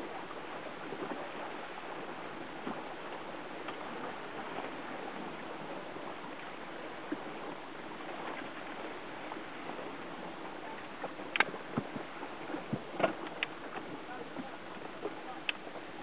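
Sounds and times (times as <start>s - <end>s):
rushing water: 0.0s - 16.0s
wind noise: 0.0s - 16.0s.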